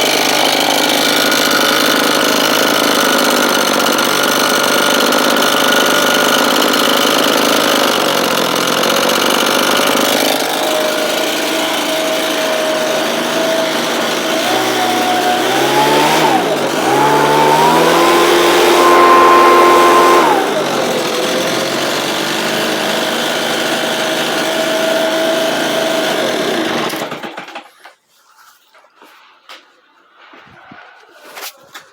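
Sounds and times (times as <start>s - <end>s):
engine-driven blower running: 0.0s - 27.7s.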